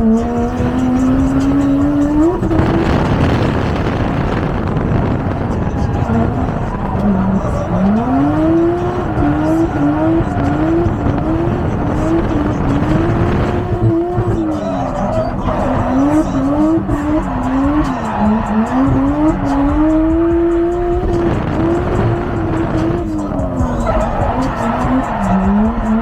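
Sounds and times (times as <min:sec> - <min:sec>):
car engine revving: 0:00.0 - 0:26.0
tyre squeal: 0:00.0 - 0:26.0.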